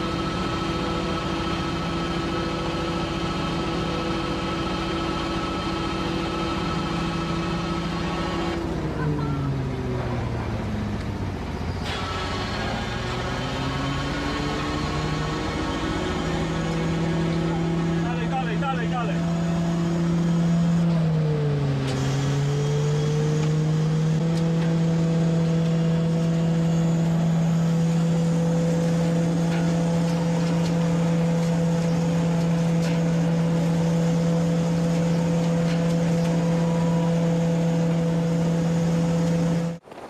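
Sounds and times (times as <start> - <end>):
machine engine running: 0.0 - 39.8.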